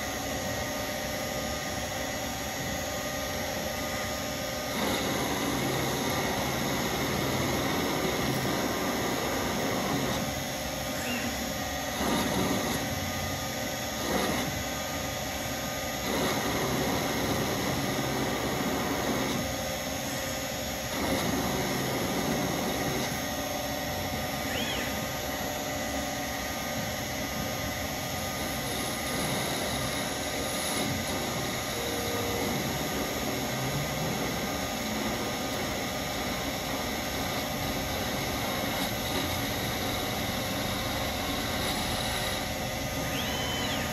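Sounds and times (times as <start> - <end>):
lathe spindle turning: 0.0 - 43.9
cutting noise surges: 3.9 - 43.9.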